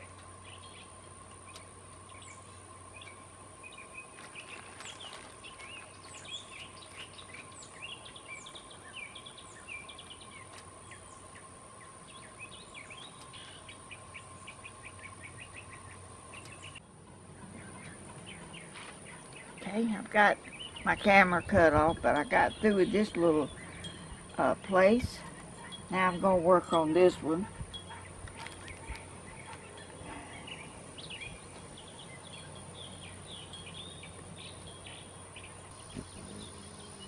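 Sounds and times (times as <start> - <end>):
faint steady tone: 0.0 - 37.0
songbirds chirping: 0.0 - 37.0.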